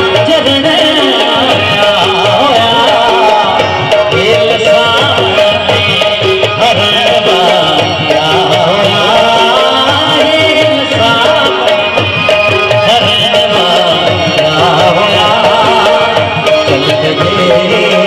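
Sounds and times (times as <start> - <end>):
hand drums beating: 0.0 - 18.0
harmonium: 0.0 - 18.0
man singing: 0.0 - 18.0.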